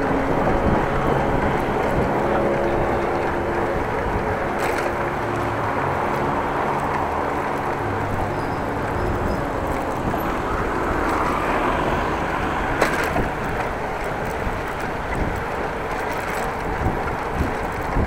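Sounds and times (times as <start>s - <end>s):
rolling rumble: 0.0s - 18.0s
wind buffeting microphone: 0.0s - 18.0s.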